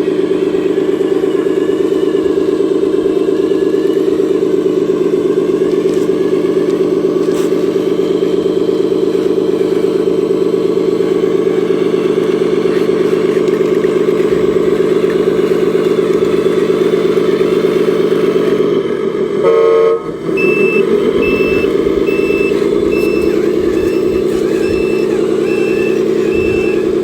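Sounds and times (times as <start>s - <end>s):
small engine running steadily: 0.0s - 27.0s.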